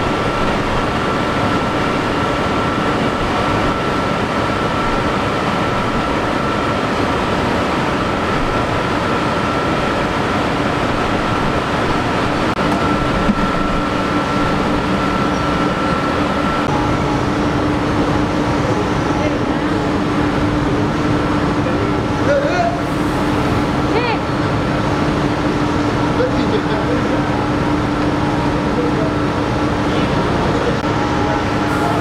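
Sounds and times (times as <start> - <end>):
factory machinery din: 0.0 - 32.0
machine whine: 0.0 - 32.0.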